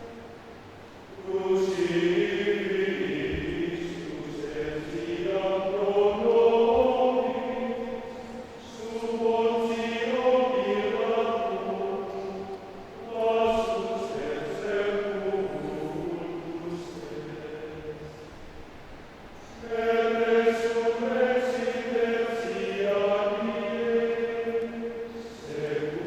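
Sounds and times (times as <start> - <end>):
men's choir singing chords: 0.0 - 26.0.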